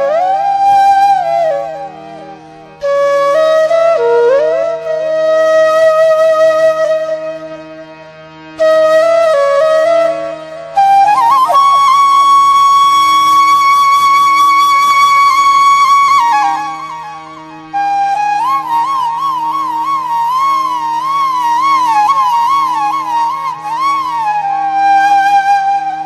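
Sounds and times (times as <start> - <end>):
slow woodwind melody: 0.0 - 7.9, 8.5 - 26.0.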